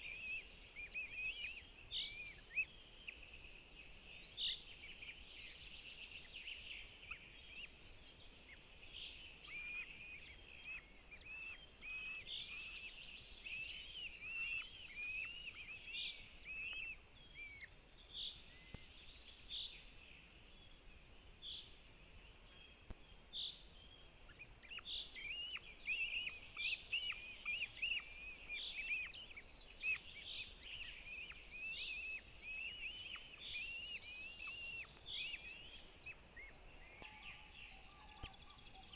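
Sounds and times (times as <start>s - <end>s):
birds chirping: 0.0s - 38.9s
faint outdoor hiss: 0.0s - 38.9s.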